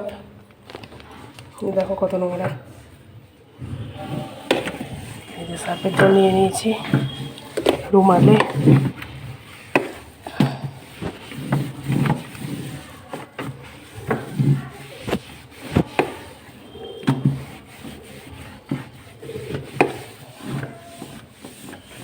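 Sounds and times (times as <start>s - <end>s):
wet cloth wiping surfaces: 2.7s - 22.0s.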